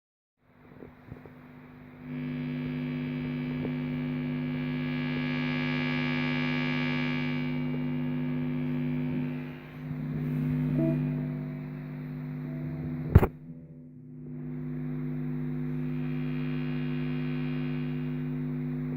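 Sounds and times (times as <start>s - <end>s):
guitar amp mains hum: 0.4s - 18.9s.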